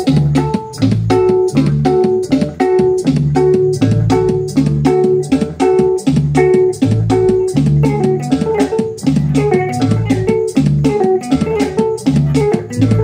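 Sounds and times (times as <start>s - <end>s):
bass guitar line: 0.0s - 13.0s
electric guitar riff: 0.0s - 13.0s.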